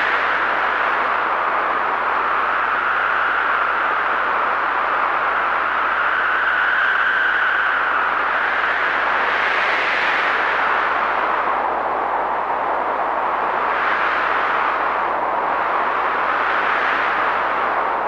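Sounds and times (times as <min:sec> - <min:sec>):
strong wind howling: 0:00.0 - 0:18.0.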